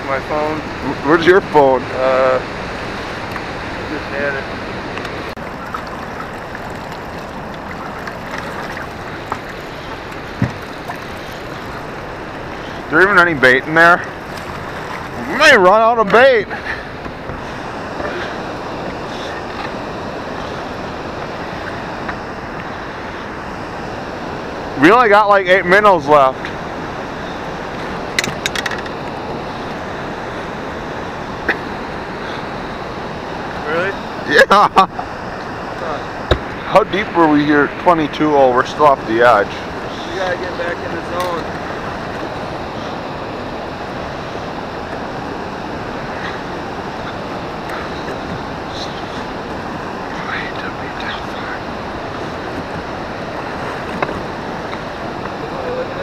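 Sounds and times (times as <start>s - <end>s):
water and wind rushing: 0.0s - 56.0s.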